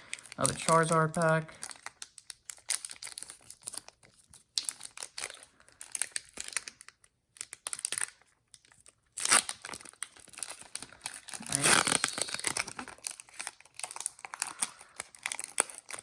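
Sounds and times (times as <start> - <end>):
foil wrapper crinkling and tearing: 0.0 - 16.0.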